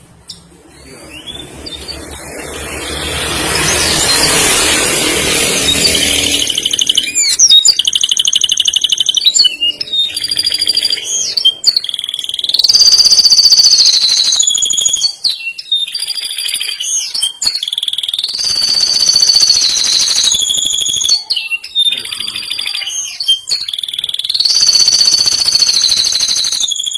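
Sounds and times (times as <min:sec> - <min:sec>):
canary singing trills: 0:00.2 - 0:26.9.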